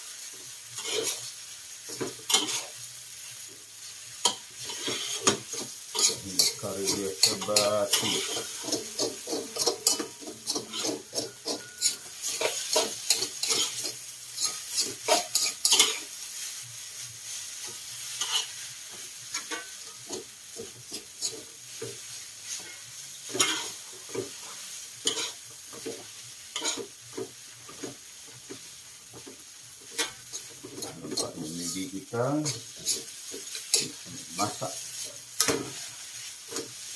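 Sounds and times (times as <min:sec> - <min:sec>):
noodles sizzling in a wok: 0:00.0 - 0:36.9
spatula scraping a metal wok: 0:00.2 - 0:36.9.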